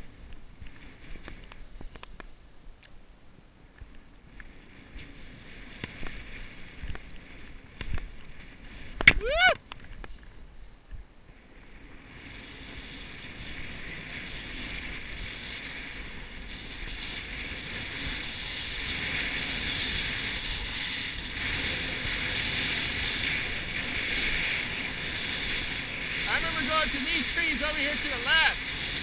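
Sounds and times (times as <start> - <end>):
snowboard scraping over snow: 0.0 - 2.6, 4.0 - 9.5, 10.1 - 29.0
wind on microphone: 0.0 - 29.0.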